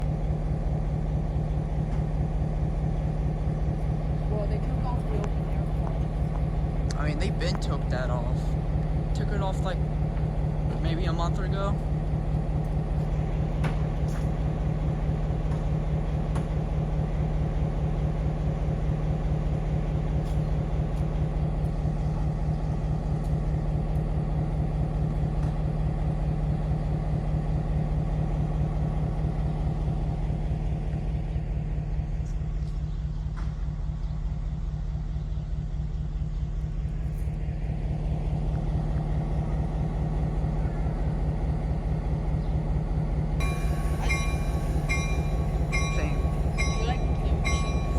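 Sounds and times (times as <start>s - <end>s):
engine running: 0.0s - 27.2s, 28.0s - 47.9s.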